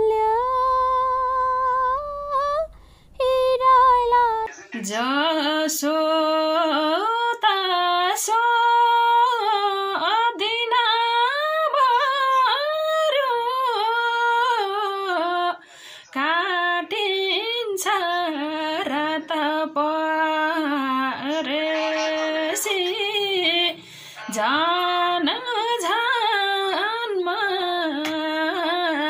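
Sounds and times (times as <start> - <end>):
woman singing unaccompanied: 0.0 - 29.0.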